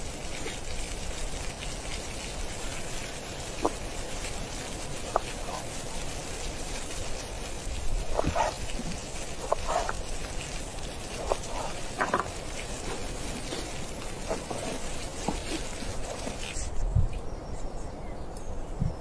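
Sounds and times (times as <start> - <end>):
wood fire crackling and popping: 0.0 - 16.3
wind hissing: 0.0 - 19.0.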